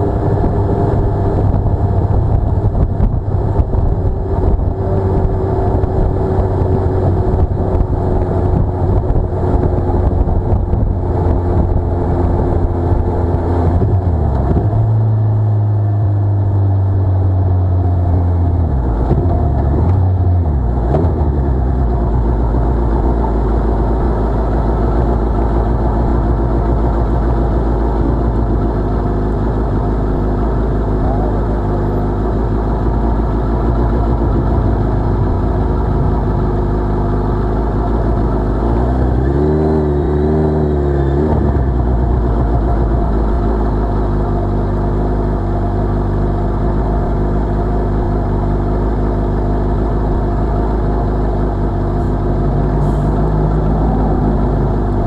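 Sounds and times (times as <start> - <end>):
motorcycle engine at low revs: 0.0 - 55.0.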